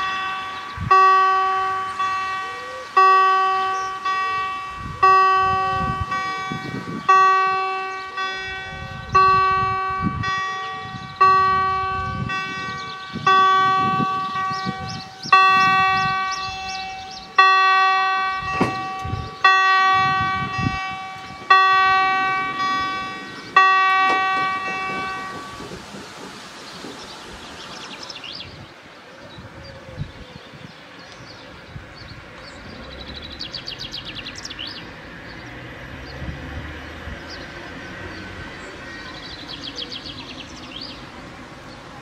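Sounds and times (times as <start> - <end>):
level crossing warning bell: 0.0 - 28.6, 32.3 - 42.0.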